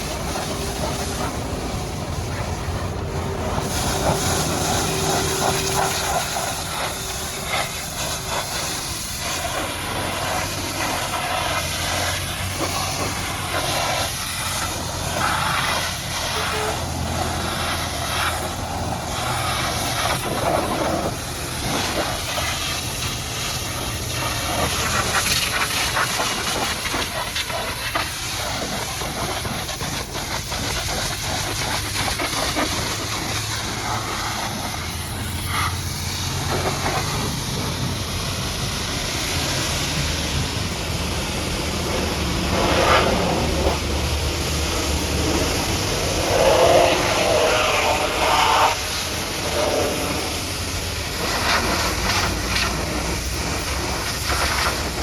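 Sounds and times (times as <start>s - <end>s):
water jet spraying: 0.0s - 55.0s.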